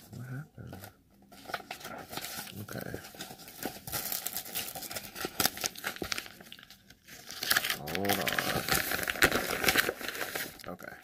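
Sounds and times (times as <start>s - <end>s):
packaging crinkling and rustling: 0.1s - 11.0s.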